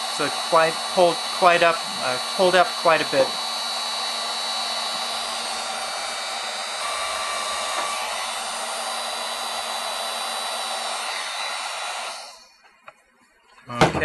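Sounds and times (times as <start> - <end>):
heat gun blowing air: 0.0 - 12.6.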